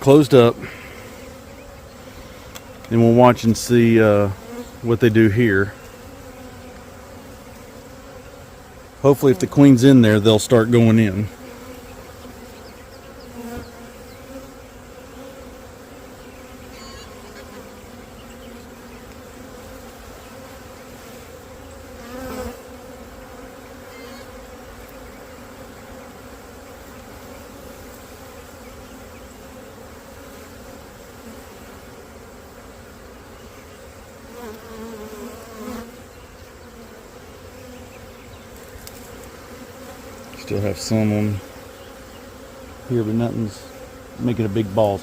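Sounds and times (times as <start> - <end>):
bee swarm buzzing: 0.0 - 45.0.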